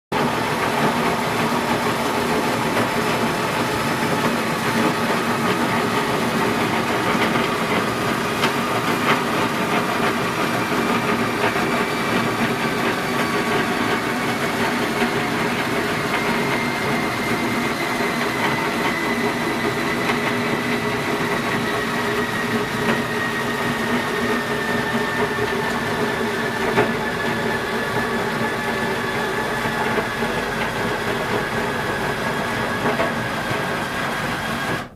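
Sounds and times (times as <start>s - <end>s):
motor-driven lift mechanism whine: 0.2s - 34.9s.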